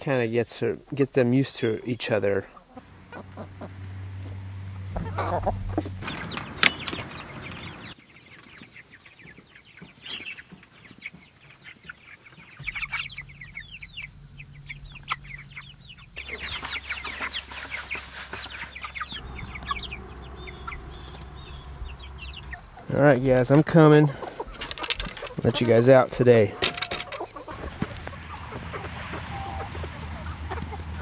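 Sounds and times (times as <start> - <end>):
chickens clucking and peeping: 0.0 - 31.0.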